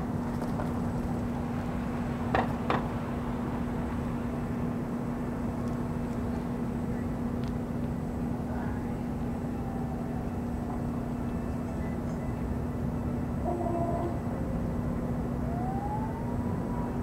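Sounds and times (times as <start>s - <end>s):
constant low hum: 0.0s - 17.0s
urban rumble: 0.0s - 17.0s.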